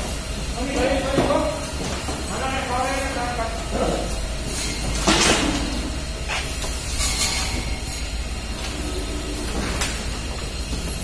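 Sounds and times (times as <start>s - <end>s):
pump droning: 0.0s - 11.0s.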